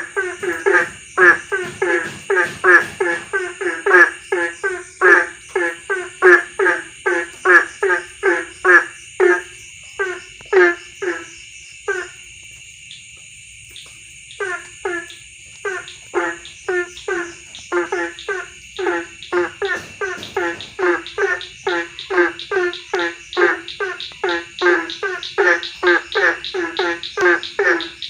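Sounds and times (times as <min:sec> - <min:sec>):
frog croaking: 0:00.0 - 0:13.1, 0:13.7 - 0:28.0
insects droning: 0:00.0 - 0:28.0.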